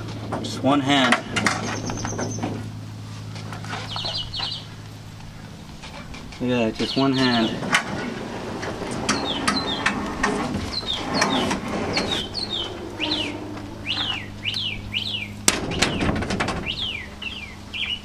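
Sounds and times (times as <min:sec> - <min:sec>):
low steady hum: 0:00.0 - 0:18.0
small birds chirping: 0:01.2 - 0:02.6, 0:03.2 - 0:07.9, 0:09.0 - 0:18.0.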